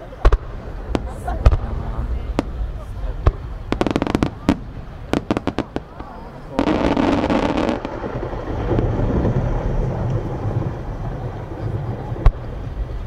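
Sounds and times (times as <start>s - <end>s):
fireworks rumble echoing: 0.0s - 13.0s.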